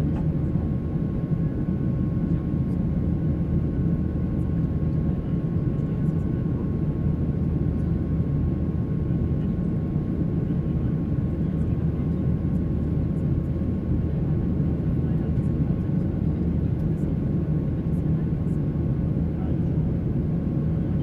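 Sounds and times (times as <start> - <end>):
jet engine rumble in cabin: 0.0 - 21.0.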